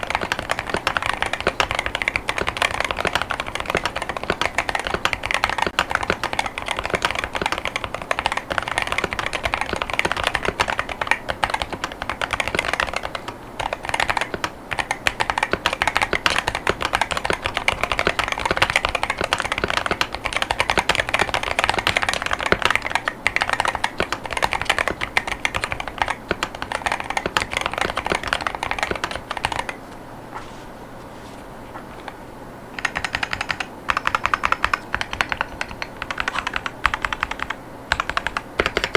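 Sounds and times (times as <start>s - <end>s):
keyboard typing clatter: 0.0s - 29.8s, 32.8s - 38.9s.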